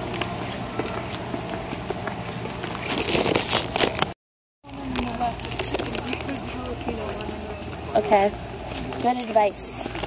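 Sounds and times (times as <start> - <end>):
refrigerated display cases humming: 0.0 - 10.0.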